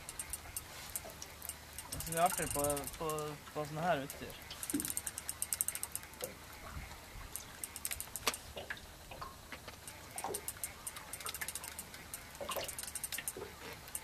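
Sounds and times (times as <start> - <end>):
spinning reel ticking: 0.0 - 8.6, 9.7 - 14.0.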